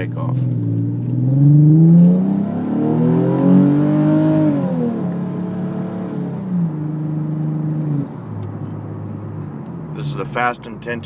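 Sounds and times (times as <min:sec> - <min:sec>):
car engine accelerating hard: 0:00.0 - 0:10.5.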